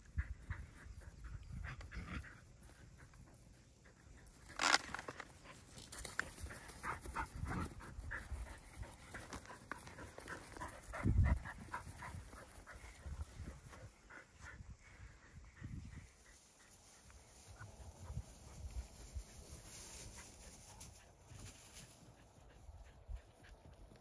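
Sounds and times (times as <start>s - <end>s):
dogs panting: 0.0s - 4.6s, 5.2s - 24.0s.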